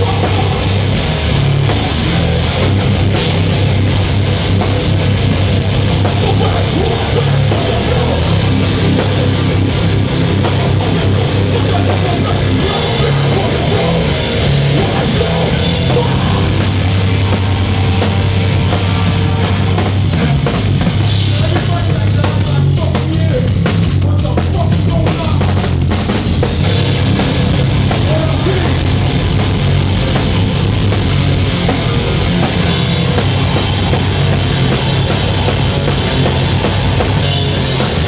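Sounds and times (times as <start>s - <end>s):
bass guitar: 0.0s - 38.0s
distorted electric guitar: 0.0s - 38.0s
drum kit: 0.0s - 38.0s.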